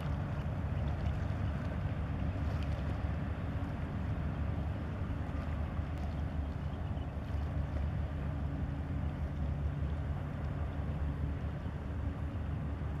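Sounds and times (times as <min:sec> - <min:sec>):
boat engines humming: 0:00.0 - 0:13.0.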